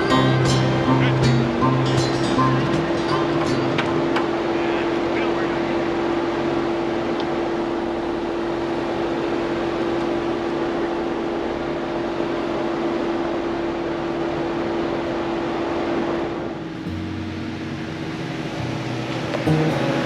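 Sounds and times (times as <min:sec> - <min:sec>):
vehicle driving off-road: 0:00.0 - 0:20.0.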